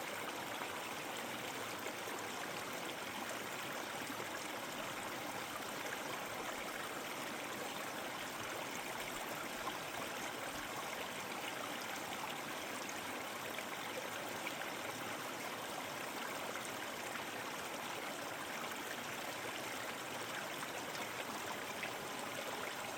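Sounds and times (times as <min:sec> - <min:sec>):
stream water running: 0:00.0 - 0:22.9.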